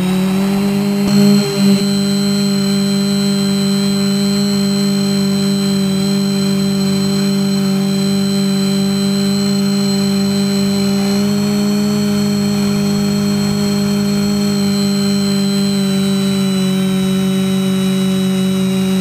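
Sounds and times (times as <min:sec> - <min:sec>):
drone motors and propellers whirring: 0:00.0 - 0:19.0.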